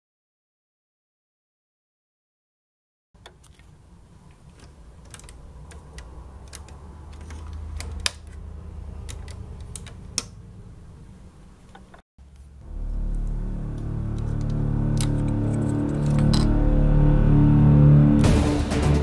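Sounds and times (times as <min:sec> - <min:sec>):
low hum: 0:03.8 - 0:19.0.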